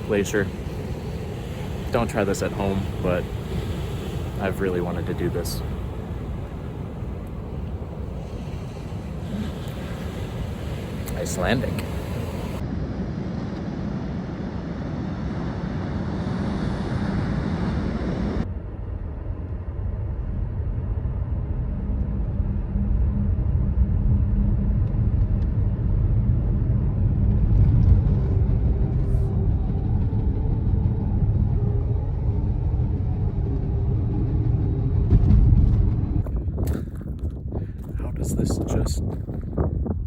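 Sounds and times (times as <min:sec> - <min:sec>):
rushing noise: 0:00.0 - 0:36.4
car engine and tyre rumble: 0:00.0 - 0:40.0.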